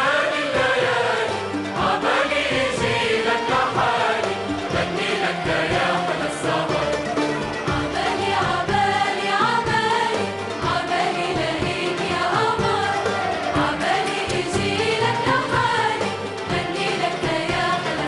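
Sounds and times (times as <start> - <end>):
large choir singing: 0.0 - 18.0
orchestra with strings: 0.0 - 18.0.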